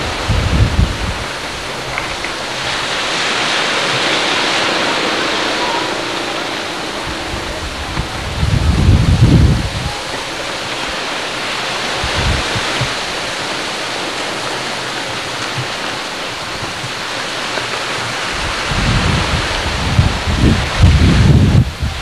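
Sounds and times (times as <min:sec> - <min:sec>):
sea: 0:00.0 - 0:22.0
strong wind: 0:00.0 - 0:22.0
wind buffeting microphone: 0:00.0 - 0:22.0.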